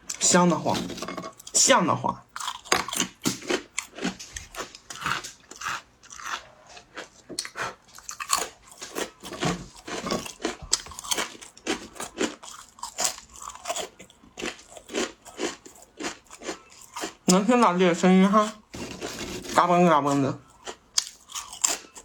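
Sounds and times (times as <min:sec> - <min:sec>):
crunchy chewing of crackers: 0:00.1 - 0:17.6, 0:18.2 - 0:22.0.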